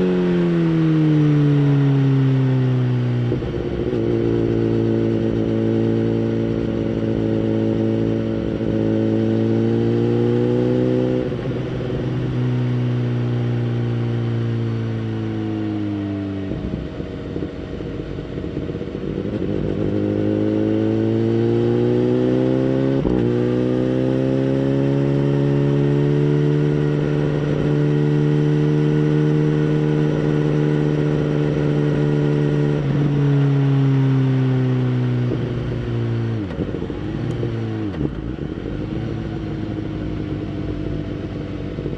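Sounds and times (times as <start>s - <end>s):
motorcycle engine at moderate speed: 0.0s - 41.9s.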